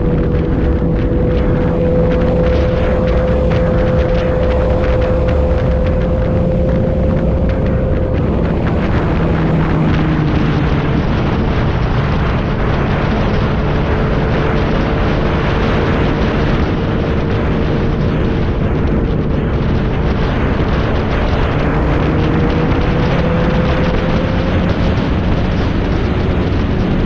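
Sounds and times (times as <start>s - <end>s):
motorcycle engine cruising: 0.0s - 27.0s
wind noise on microphone: 0.0s - 27.0s.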